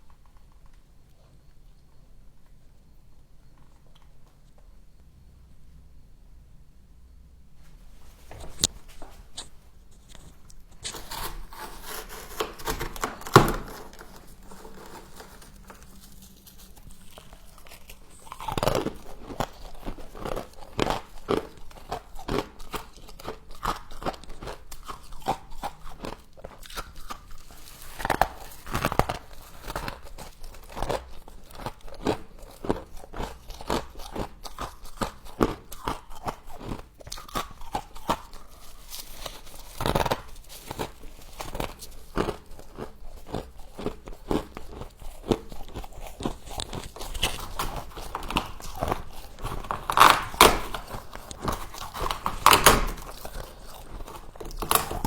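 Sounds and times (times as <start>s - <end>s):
frost crunching being chewed: 7.7s - 55.0s.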